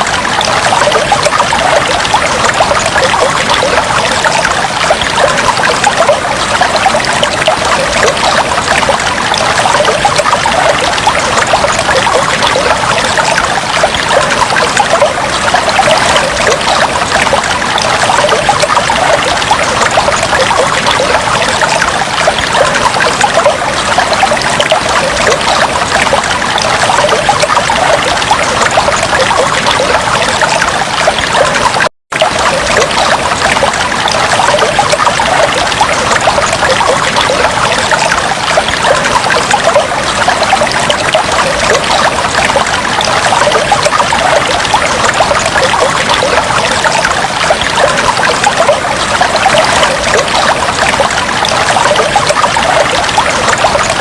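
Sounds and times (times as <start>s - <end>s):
water trickling in fish tank: 0.0s - 54.0s.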